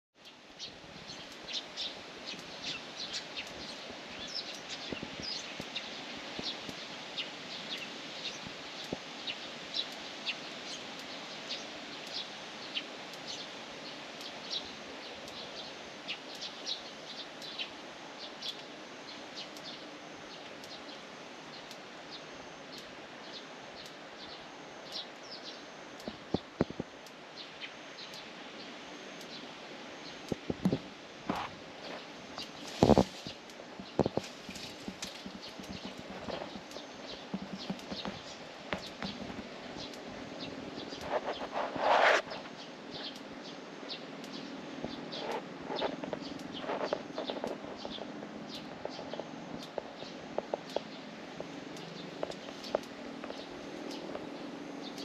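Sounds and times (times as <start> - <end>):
outdoor ambience hiss: 0.2 - 55.0
small birds chirping: 0.2 - 55.0.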